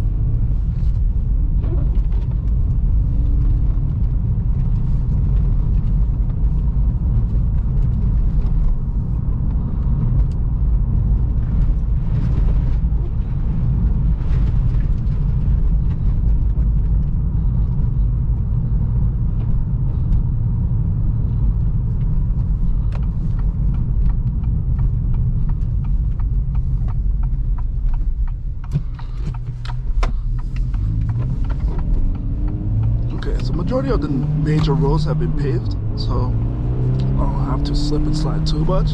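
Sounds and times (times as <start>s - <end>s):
road and engine rumble in car: 0.0s - 38.9s.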